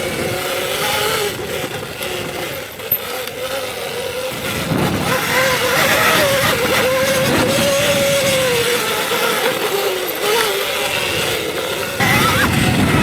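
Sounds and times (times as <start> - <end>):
constant rushing noise: 0.0 - 13.0
electric motor whining: 0.0 - 13.0.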